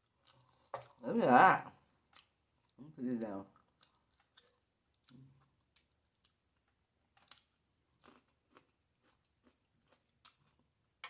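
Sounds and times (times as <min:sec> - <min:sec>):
person chewing food: 0:00.0 - 0:01.0, 0:01.8 - 0:02.9, 0:03.6 - 0:10.8.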